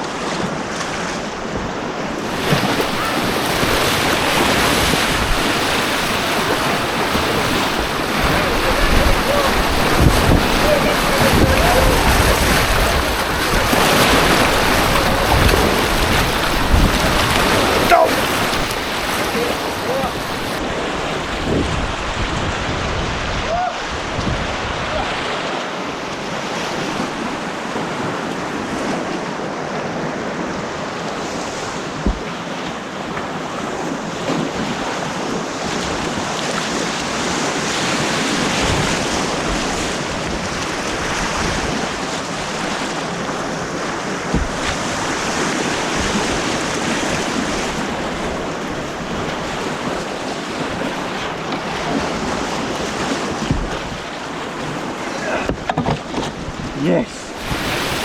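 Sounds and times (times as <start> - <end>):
wind noise on microphone: 0.0 - 25.5, 26.6 - 32.5, 33.8 - 54.8, 55.4 - 58.0
white water rushing: 0.0 - 58.0.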